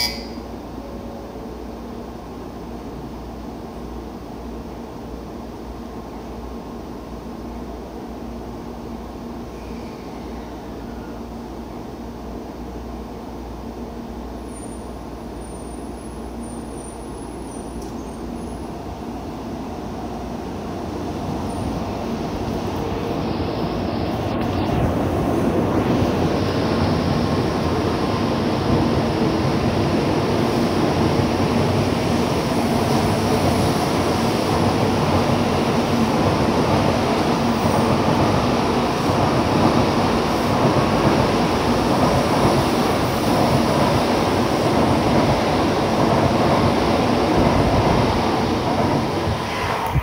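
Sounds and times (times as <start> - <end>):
high-speed train rushing past: 0.0 - 50.0.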